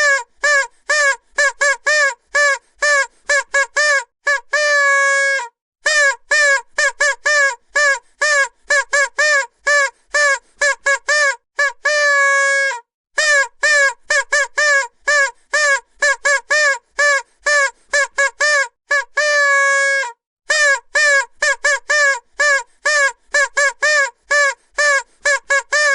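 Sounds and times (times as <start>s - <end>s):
vuvuzela toots: 0.0s - 25.9s.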